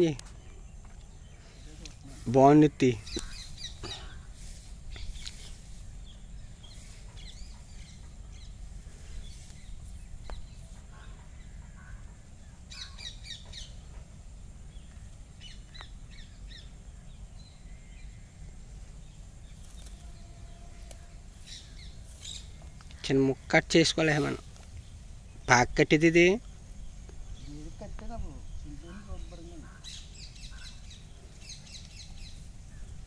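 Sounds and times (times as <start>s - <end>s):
steady low rumble: 0.0s - 23.6s, 24.4s - 33.0s
wild birds chirping: 0.0s - 33.0s.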